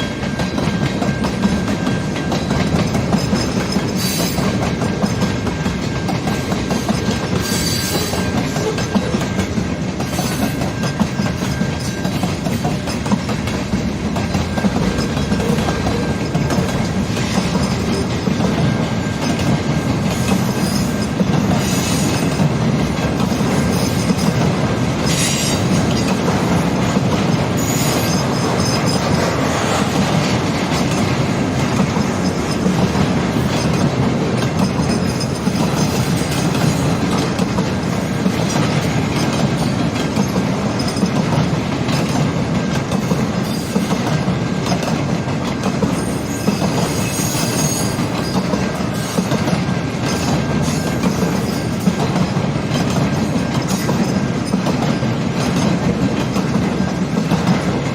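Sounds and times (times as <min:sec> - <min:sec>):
train wheels clacking on rails: 0:00.0 - 0:57.9.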